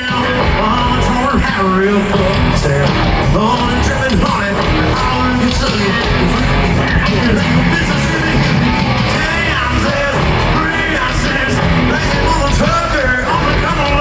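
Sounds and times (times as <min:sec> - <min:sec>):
live country-rock band: 0:00.0 - 0:14.0
person singing: 0:00.0 - 0:14.0.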